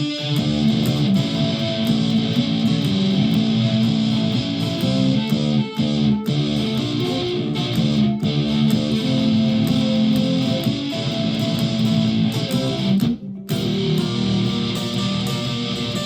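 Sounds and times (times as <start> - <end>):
distorted electric ukulele: 0.0 - 16.0.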